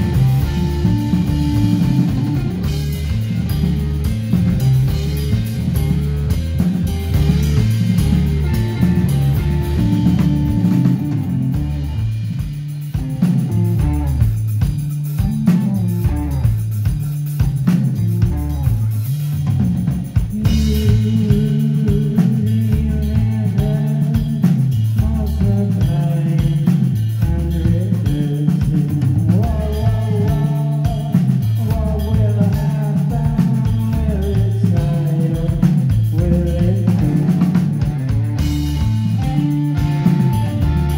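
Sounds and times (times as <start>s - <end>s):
heavy bass line: 0.0s - 40.9s
rock band playing: 0.0s - 40.9s.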